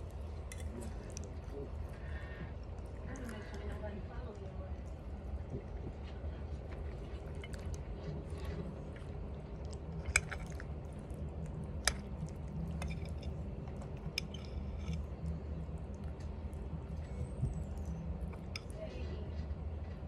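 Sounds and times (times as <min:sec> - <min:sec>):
person chewing and smacking: 0:00.0 - 0:03.8, 0:04.4 - 0:18.8.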